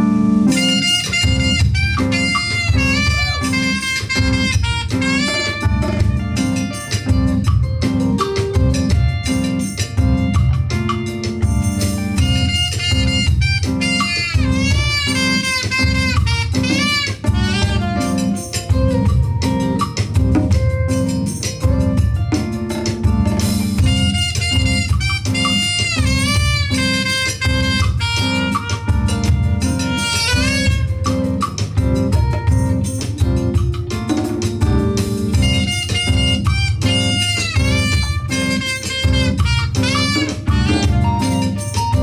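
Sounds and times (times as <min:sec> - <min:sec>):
drum kit: 0:00.0 - 0:42.0
electric bass: 0:00.0 - 0:42.0
keyboards: 0:00.0 - 0:42.0
saxophone and brass melody: 0:00.0 - 0:42.0.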